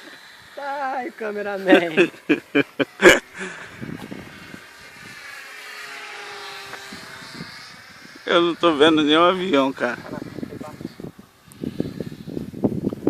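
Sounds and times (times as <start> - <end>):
model airplane propeller drone: 0.0 - 13.0.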